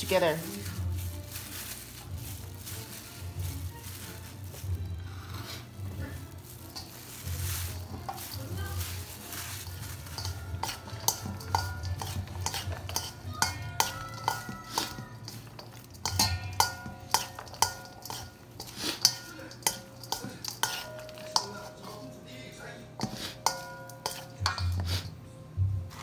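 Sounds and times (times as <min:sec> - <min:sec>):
utensils clinking in metal bowl: 0:00.0 - 0:25.2.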